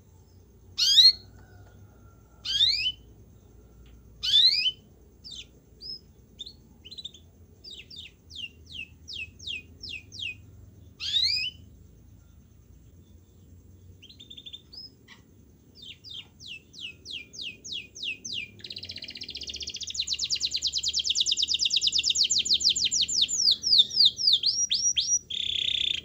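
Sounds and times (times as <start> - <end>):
canary singing: 0.7 - 3.2, 4.2 - 11.7, 14.0 - 26.0.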